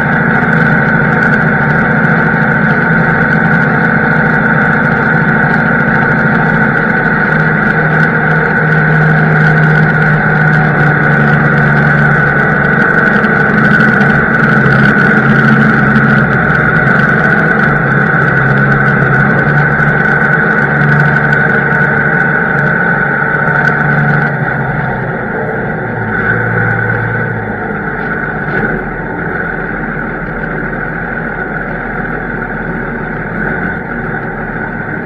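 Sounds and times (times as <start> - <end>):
diesel engine drone: 0.0 - 35.0
high-pitched machine whine: 0.0 - 35.0.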